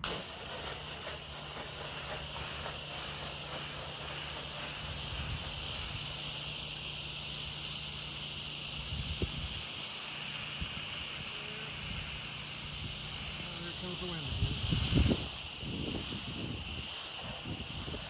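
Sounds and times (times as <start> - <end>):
pump humming: 0.0 - 18.0
water spray hissing from nozzle: 0.0 - 18.0.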